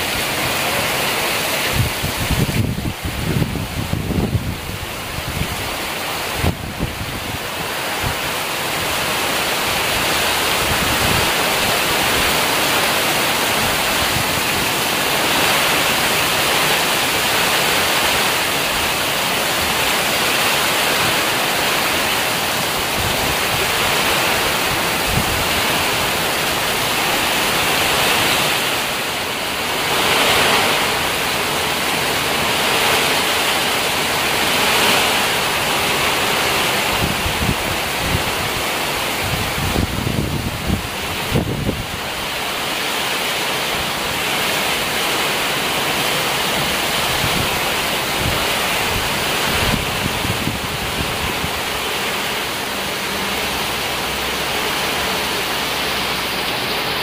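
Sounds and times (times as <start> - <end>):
heavy rain downpour: 0.0 - 57.0.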